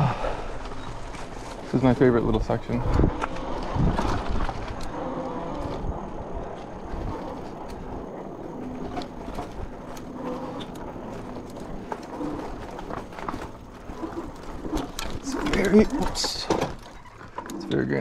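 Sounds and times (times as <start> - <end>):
tyres rolling on dirt: 0.0 - 18.0
bike clicks and rattles: 0.4 - 18.0.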